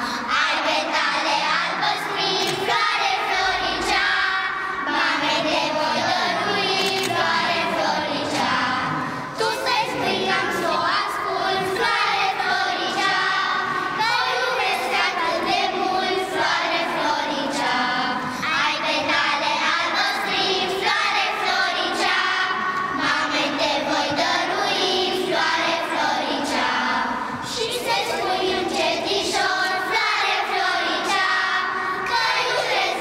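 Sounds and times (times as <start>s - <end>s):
children's choir singing: 0.0s - 33.0s.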